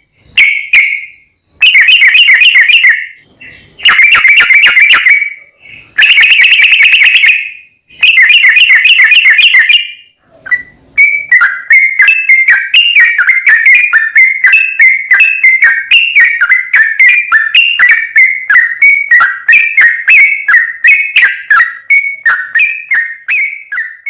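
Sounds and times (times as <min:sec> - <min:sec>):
bird whistled song: 0:00.0 - 0:24.0.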